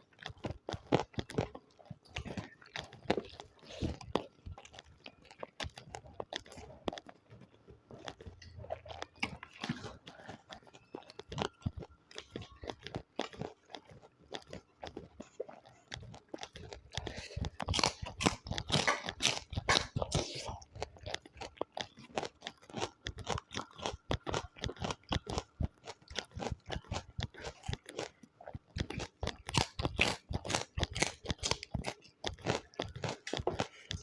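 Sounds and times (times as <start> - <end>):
crunchy chewing: 0.0 - 34.0.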